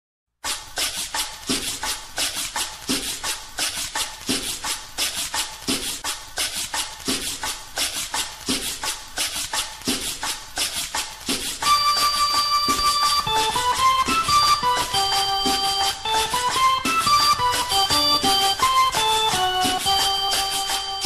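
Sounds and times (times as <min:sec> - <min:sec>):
scraped percussion rhythm: 0:00.4 - 0:21.0.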